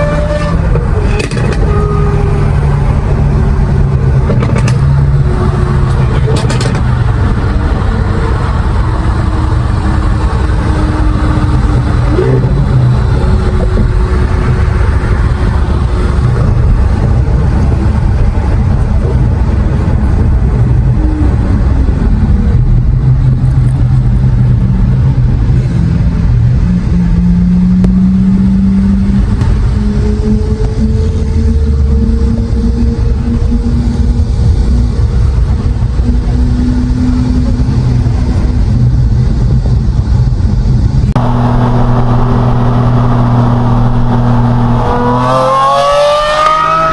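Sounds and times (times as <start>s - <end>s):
car engine and exhaust running: 0.0s - 46.9s.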